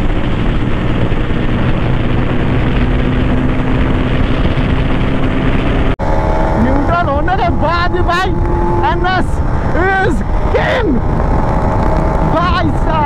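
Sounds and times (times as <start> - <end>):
motorcycle engine at full throttle: 0.0 - 13.0
wind rush on microphone: 0.0 - 13.0.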